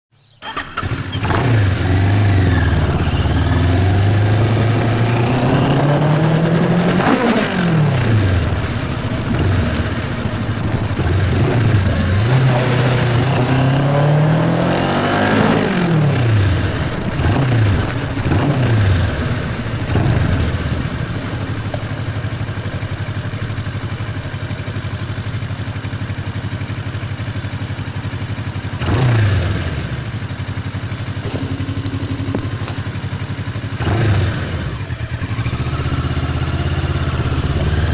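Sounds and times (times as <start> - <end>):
motorcycle engine revving: 0.4 - 37.9.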